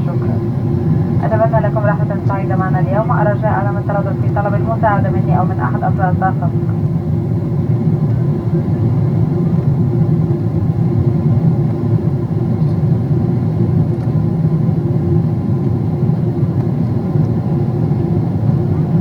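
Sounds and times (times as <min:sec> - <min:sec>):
air rushing along fuselage: 0:00.0 - 0:19.0
jet engines droning: 0:00.0 - 0:19.0.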